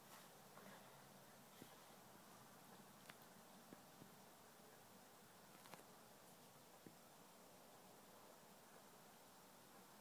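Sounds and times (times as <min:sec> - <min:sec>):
faint room hiss: 0:00.0 - 0:10.0.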